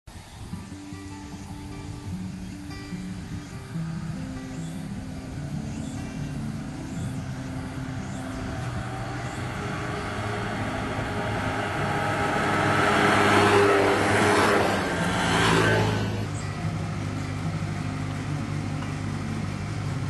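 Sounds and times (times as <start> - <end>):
scooter engines passing: 0.2 - 20.0.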